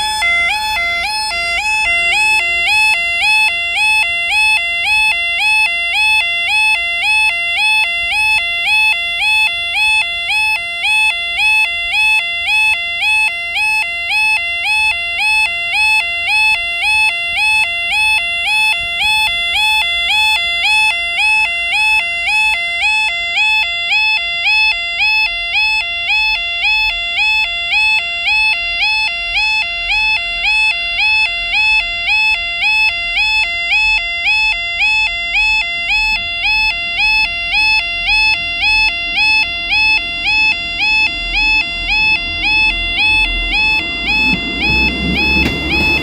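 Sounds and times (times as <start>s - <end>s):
two-note warbling warning alarm: 0.0s - 46.0s.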